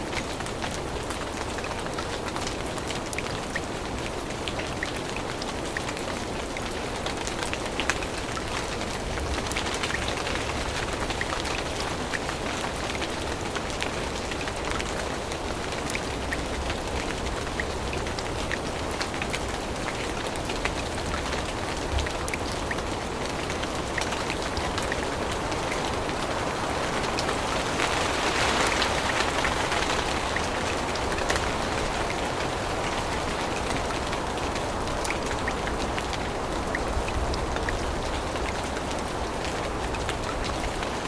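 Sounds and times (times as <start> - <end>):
rain on foliage: 0.0 - 41.0
raindrops ticking: 0.1 - 41.0.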